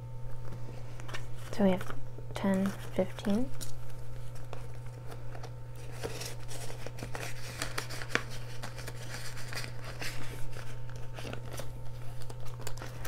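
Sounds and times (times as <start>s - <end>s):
steady low hum: 0.0s - 13.0s
paper banknotes rustling: 0.4s - 13.0s.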